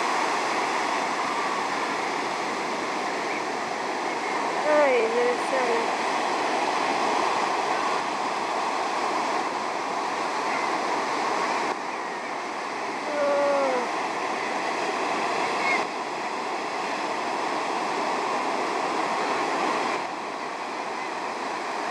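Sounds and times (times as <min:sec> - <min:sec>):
ocean surf washing on beach: 0:00.0 - 0:21.9.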